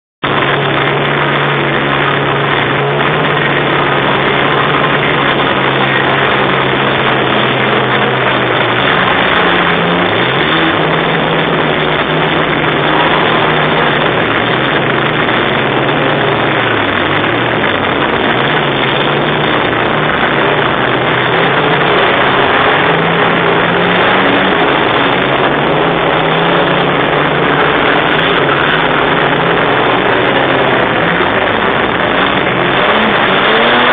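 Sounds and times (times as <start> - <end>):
engine running at high revs: 0.0 - 33.9.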